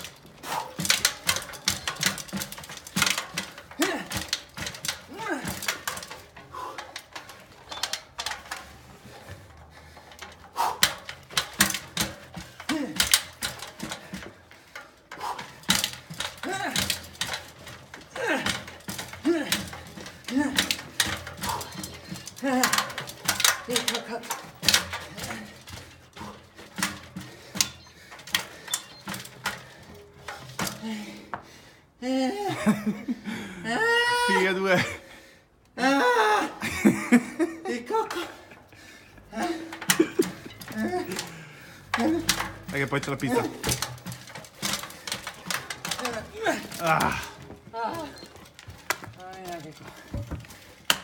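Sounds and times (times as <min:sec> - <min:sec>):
bike wheels knocking on stone steps: 0:00.0 - 0:31.7, 0:36.0 - 0:51.0.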